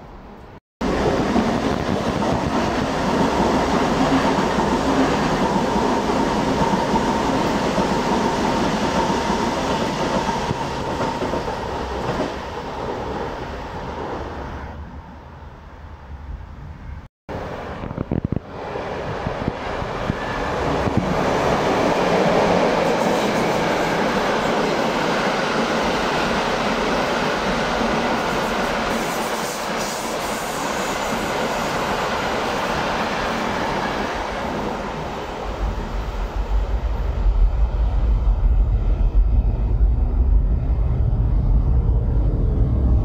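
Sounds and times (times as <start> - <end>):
train passing on rails: 0.0 - 43.0.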